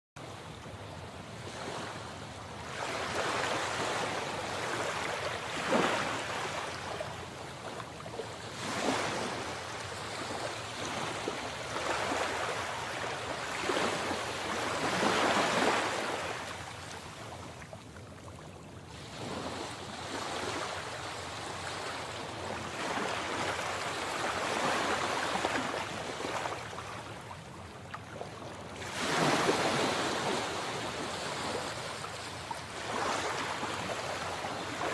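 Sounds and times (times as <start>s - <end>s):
sea waves breaking on shore: 0.2s - 34.9s.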